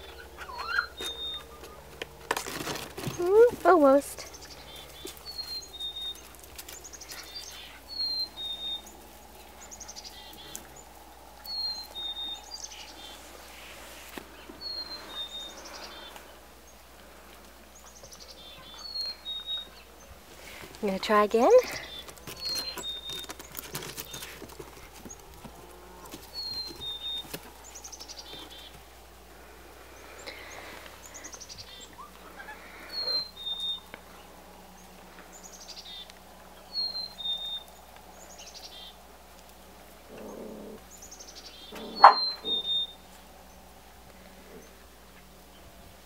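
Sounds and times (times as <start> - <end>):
songbird singing: 0.0 - 2.3, 2.9 - 46.0.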